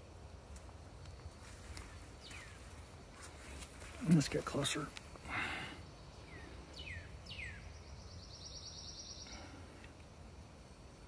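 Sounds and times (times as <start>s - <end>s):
faint steady hush: 0.0s - 11.0s.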